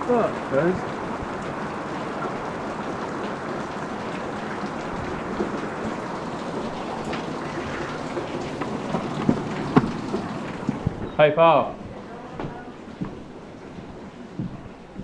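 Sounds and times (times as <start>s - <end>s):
steady rain hiss: 0.0s - 15.0s
water drips: 0.0s - 15.0s.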